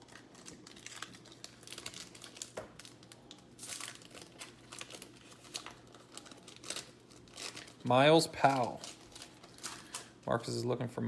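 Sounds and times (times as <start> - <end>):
wrapper crinkling and tearing: 0.0 - 10.7.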